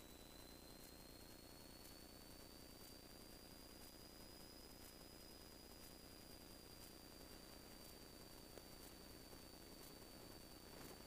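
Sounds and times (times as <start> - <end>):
faint hiss: 0.0 - 11.0
high-pitched electronic whine: 0.0 - 11.0.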